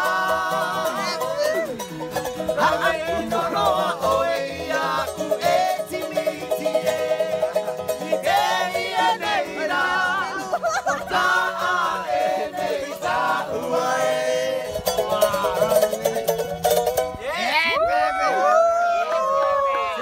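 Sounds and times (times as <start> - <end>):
voices calling out: 0.0 - 16.4
men singing: 0.0 - 16.7
ukulele strumming: 0.0 - 17.4.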